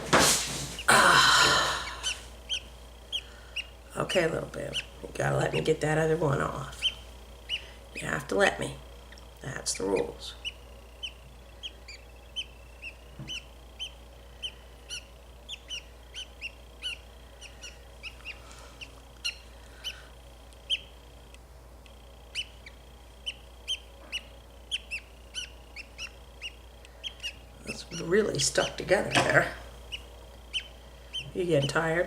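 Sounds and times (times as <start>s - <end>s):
budgie chirping: 0.8s - 32.0s.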